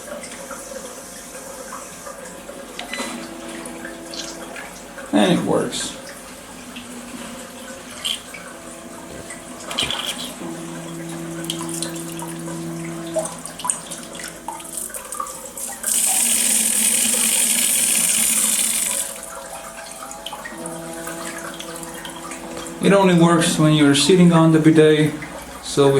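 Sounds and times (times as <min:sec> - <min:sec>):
steady electric hum: 0:00.0 - 0:25.9
water trickling: 0:00.0 - 0:25.9.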